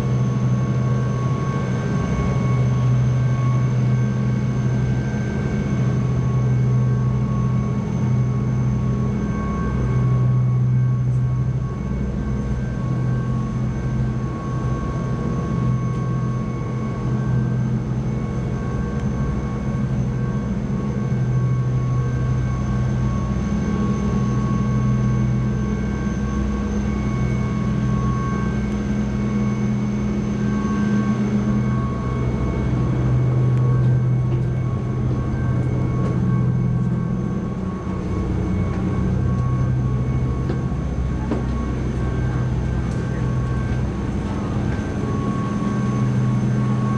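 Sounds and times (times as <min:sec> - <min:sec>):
faint steady whining tones: 0:00.0 - 0:46.9
ferry engines droning: 0:00.0 - 0:46.9.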